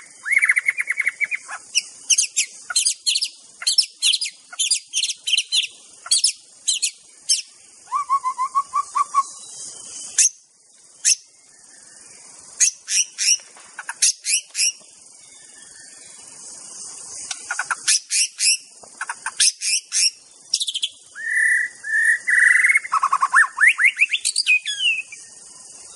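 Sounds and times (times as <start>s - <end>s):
bird whistling song: 0.0s - 25.9s
steady high hiss: 0.0s - 25.9s.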